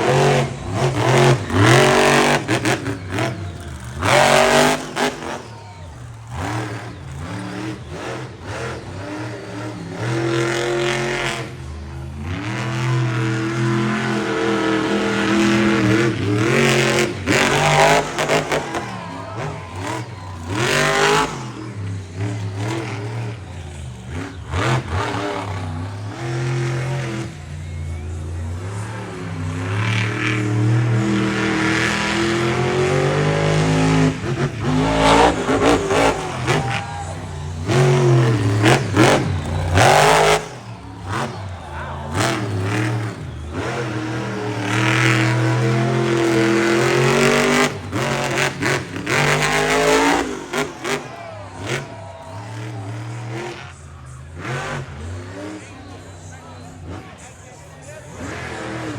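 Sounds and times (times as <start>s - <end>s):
truck engine revving: 0.0s - 58.9s.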